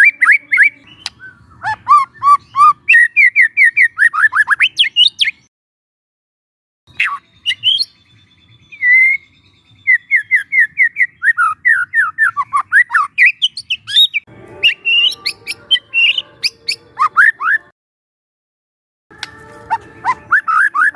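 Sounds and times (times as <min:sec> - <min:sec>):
bird singing whistled notes: 0:00.0 - 0:05.5, 0:06.9 - 0:17.7, 0:19.2 - 0:20.9.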